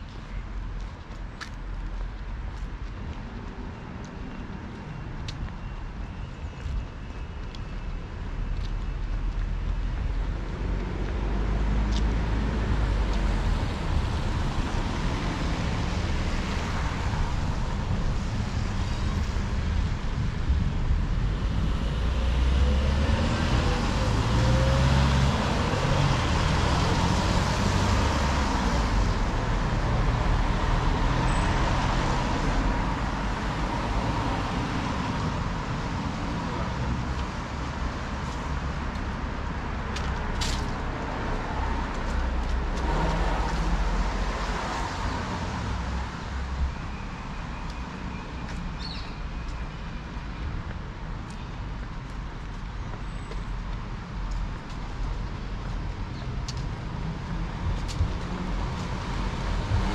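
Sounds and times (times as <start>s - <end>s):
cars passing: 8.1s - 59.9s.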